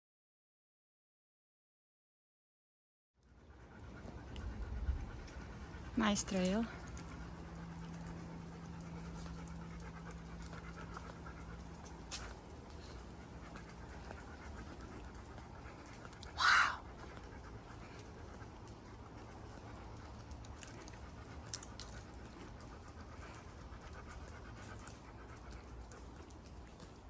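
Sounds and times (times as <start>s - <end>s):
dog panting: 3.2s - 27.0s.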